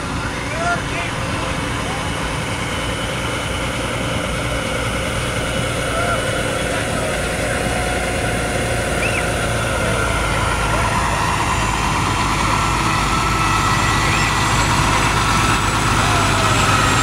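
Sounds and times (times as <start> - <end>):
diesel truck engine rumble: 0.0 - 17.0
onlookers' voices: 0.0 - 17.0.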